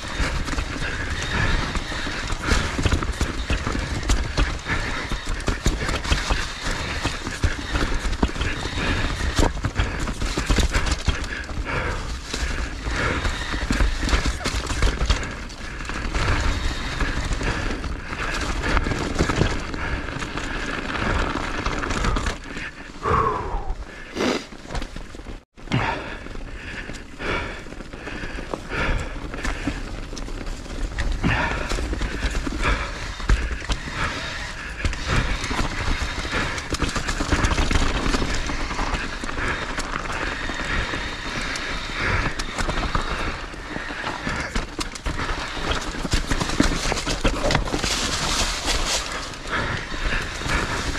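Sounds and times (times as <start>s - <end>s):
skis scraping snow: 0.0s - 22.6s, 27.0s - 50.9s.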